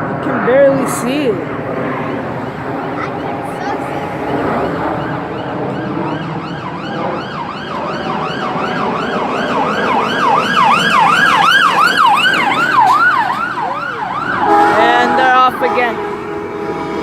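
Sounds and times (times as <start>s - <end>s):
traffic: 0.0s - 17.0s
emergency siren yelping: 1.6s - 17.0s.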